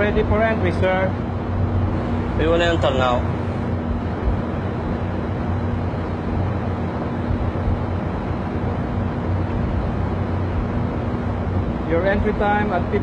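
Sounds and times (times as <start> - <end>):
machinery hum: 0.0 - 13.0
ship machinery rumble: 0.0 - 13.0.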